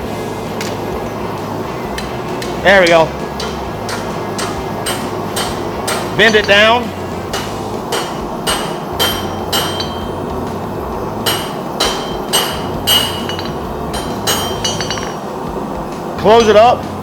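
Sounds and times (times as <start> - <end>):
hammer striking steel on anvil: 2.0 - 15.4, 16.2 - 16.9.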